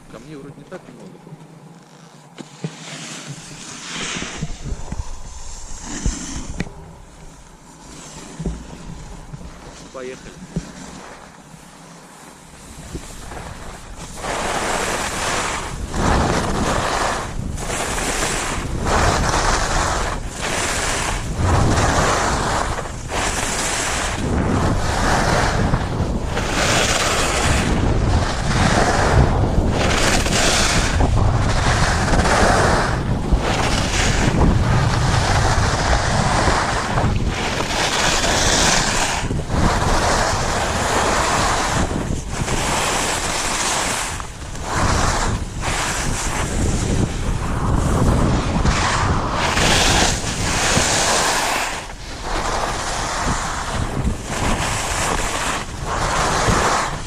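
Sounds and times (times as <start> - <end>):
skis hissing on snow: 2.4 - 57.0
wind buffeting microphone: 3.2 - 11.8, 12.4 - 57.0.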